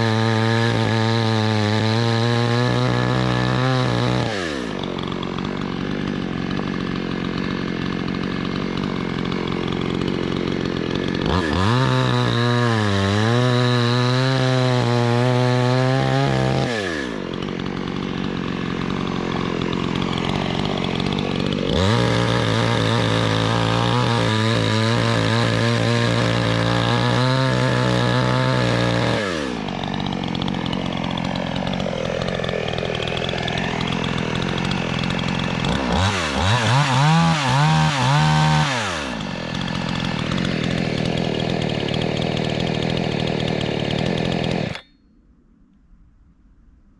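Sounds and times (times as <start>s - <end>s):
chainsaw revving: 0.0s - 44.9s.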